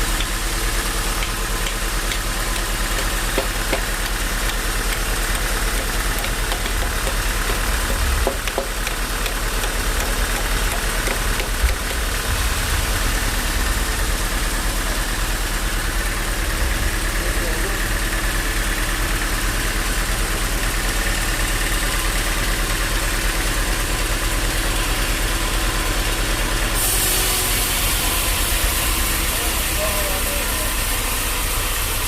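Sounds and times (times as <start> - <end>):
sawmill machinery hum: 0.0 - 32.0.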